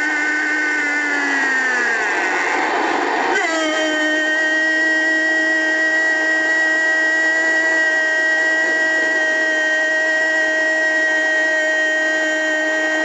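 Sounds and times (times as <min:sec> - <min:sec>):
commentator holding goal cry: 0:00.2 - 0:13.0.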